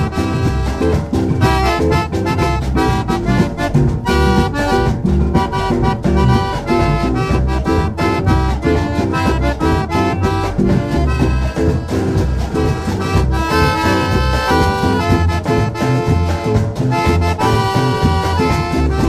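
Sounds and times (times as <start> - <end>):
instrumental band music: 0.0 - 19.0.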